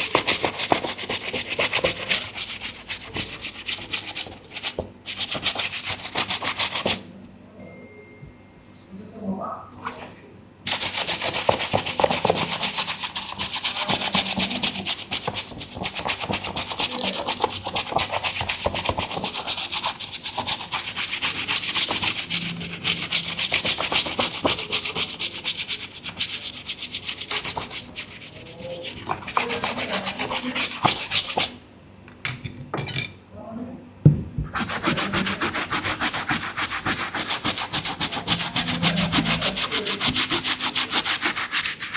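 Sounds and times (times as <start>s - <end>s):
brush scrubbing a sneaker: 0.0s - 7.1s, 10.7s - 31.6s, 34.5s - 41.9s.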